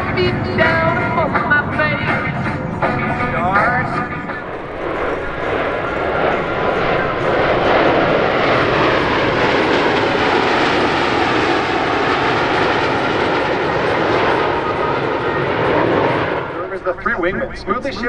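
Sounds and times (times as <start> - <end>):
jet engines flying past: 0.0 - 18.0.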